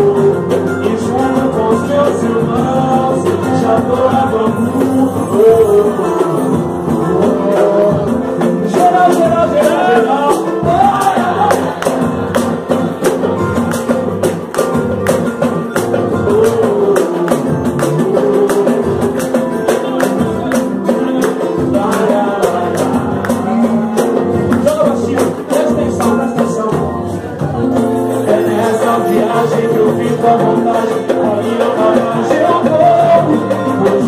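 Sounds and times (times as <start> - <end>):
upbeat instrumental song: 0.0 - 34.0.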